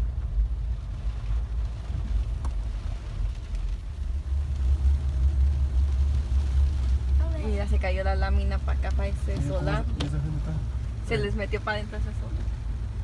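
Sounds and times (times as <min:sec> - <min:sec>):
car driving rumble from inside: 0:00.0 - 0:13.0.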